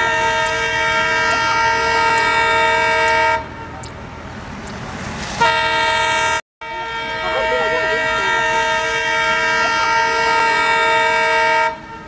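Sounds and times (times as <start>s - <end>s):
locomotive air horn: 0.0s - 3.8s, 5.4s - 12.0s
train running noise: 0.0s - 12.0s.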